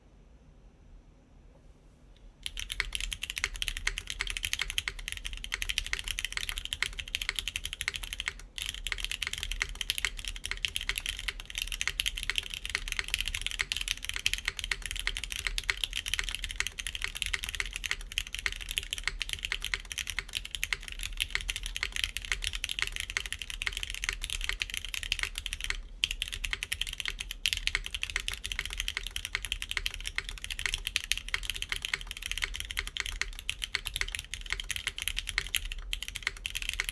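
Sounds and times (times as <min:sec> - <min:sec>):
fast typing on mechanical keyboard: 0:02.4 - 0:36.9.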